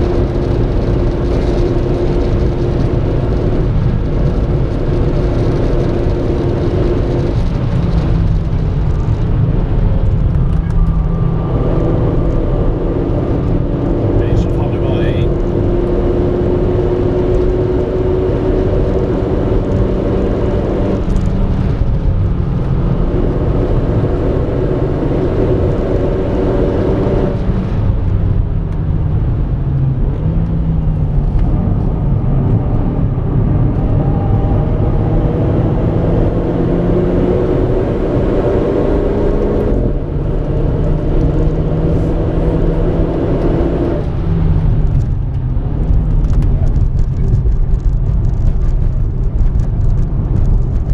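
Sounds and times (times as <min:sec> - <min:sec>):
car engine accelerating: 0:00.0 - 0:50.9
road and tyre noise: 0:00.0 - 0:50.9.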